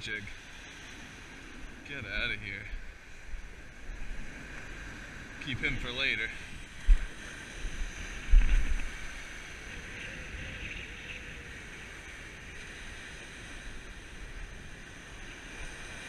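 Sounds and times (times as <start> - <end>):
ocean surf breaking: 0.0 - 16.0
wind buffeting microphone: 1.0 - 16.0.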